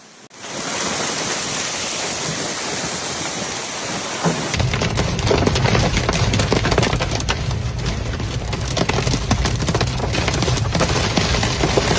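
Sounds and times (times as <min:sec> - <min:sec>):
hail pelting a hard surface: 0:00.4 - 0:11.9
storm wind rumbling: 0:02.2 - 0:11.9.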